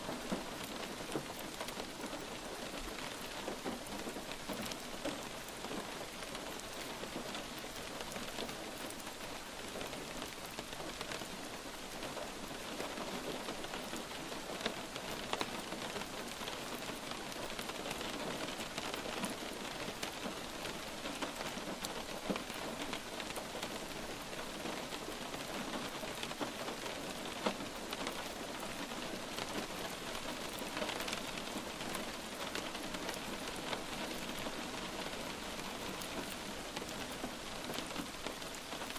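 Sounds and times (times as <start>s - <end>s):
light rain patter: 0.0s - 38.9s.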